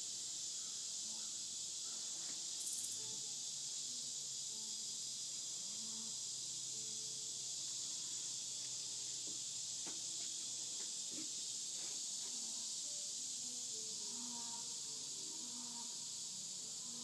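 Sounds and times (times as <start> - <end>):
insect chorus hiss: 0.0 - 17.0.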